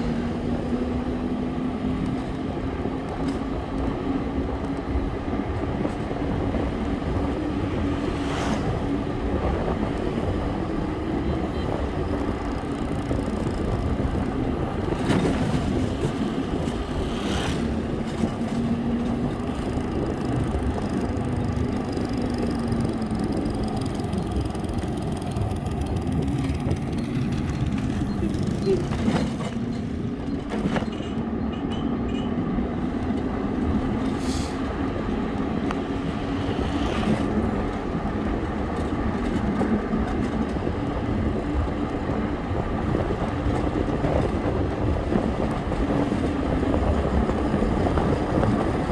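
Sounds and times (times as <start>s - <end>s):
road and wind noise: 0.0s - 48.9s.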